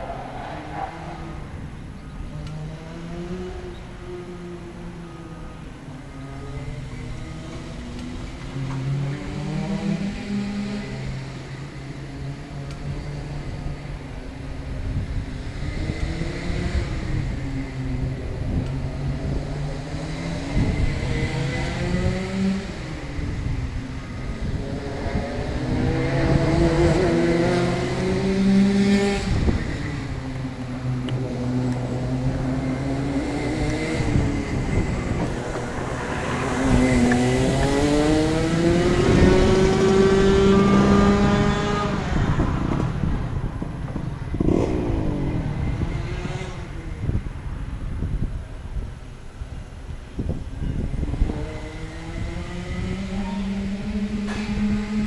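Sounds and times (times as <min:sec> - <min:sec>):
kart engine revving: 0:00.0 - 0:14.3, 0:15.1 - 0:47.2, 0:50.8 - 0:55.0.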